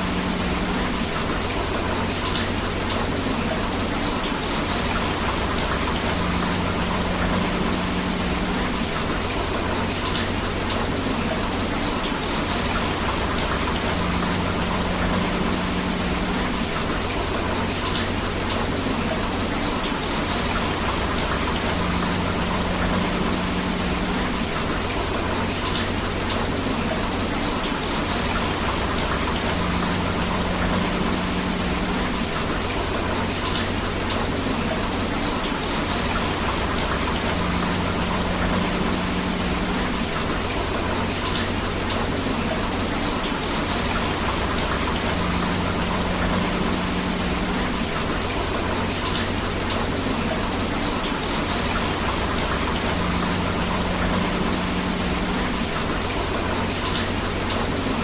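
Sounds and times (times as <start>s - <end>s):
heavy rain: 0.0s - 58.0s
river water flowing: 0.0s - 58.0s.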